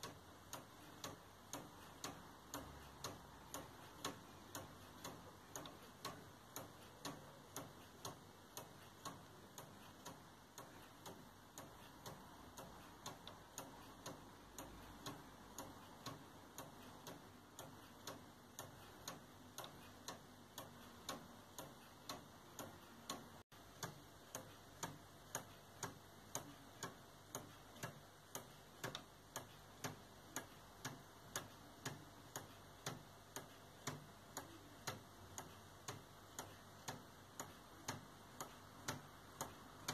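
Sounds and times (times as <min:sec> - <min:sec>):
wooden clock ticking: 0:00.0 - 0:39.9.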